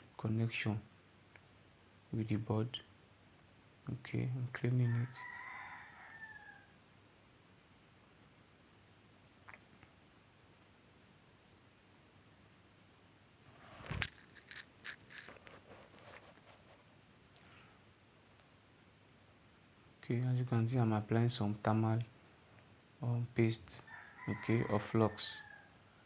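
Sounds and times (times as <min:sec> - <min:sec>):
cricket trilling: 0:00.0 - 0:26.0.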